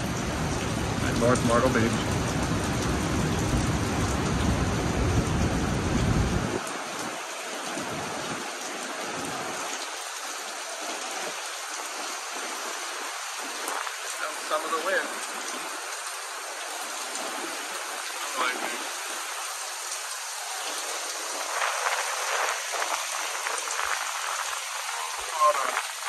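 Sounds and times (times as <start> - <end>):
heavy rain hissing: 0.0 - 26.0.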